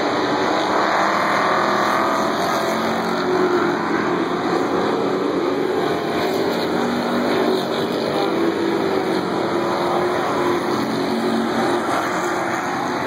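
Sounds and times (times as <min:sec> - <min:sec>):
stock car engines droning: 0:00.0 - 0:13.0.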